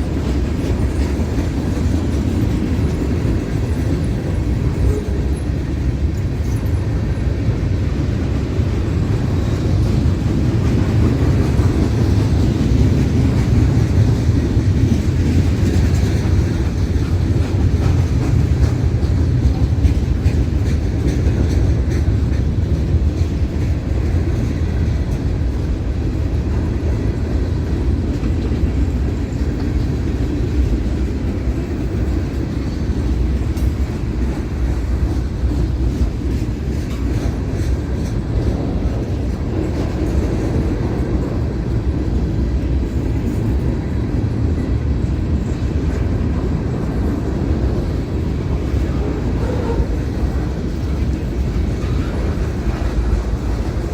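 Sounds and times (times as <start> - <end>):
train rumbling past: 0.0 - 53.9.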